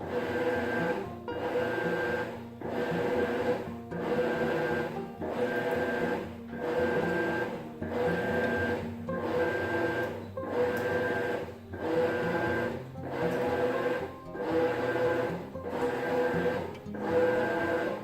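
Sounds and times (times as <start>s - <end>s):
washing machine agitator whirring: 0.0s - 18.0s.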